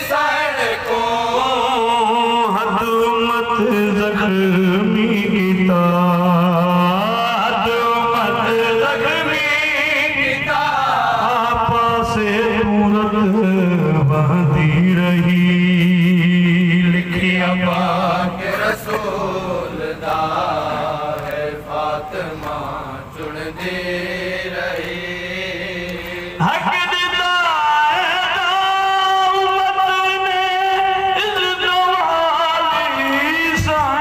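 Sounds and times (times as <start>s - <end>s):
man chanting through microphone: 0.0s - 34.0s.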